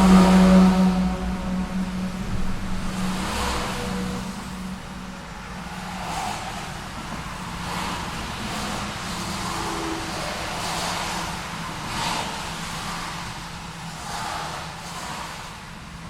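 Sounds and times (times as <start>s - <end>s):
cars passing: 0.0s - 16.0s
low hum of engines: 0.0s - 16.0s.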